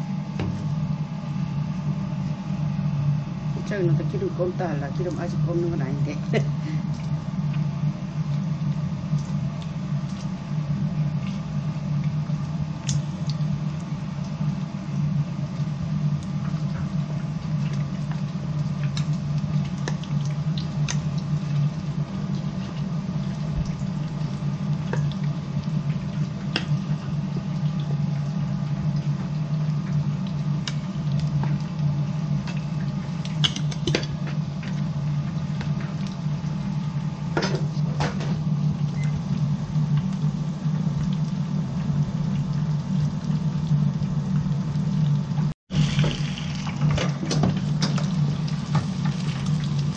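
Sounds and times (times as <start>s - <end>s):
oil bubbling and sizzling: 0.0s - 49.9s.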